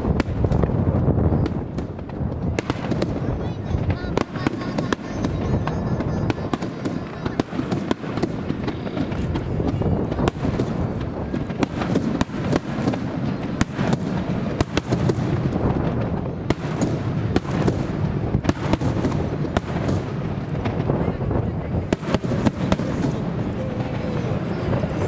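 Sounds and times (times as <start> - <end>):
fireworks bangs and crackles: 0.0 - 25.0
wind buffeting microphone: 0.0 - 25.0.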